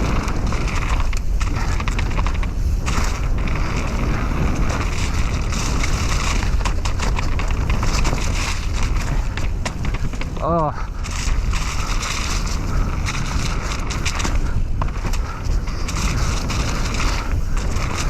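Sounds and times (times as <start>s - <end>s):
bike rattles and knocks: 0.0s - 18.0s
wind rumble on microphone: 0.0s - 18.0s.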